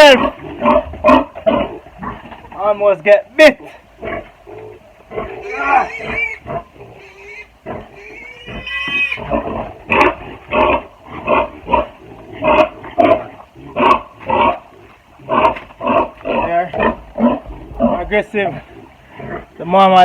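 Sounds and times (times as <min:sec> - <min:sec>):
pig grunting loudly: 0:00.0 - 0:02.7, 0:03.6 - 0:20.0.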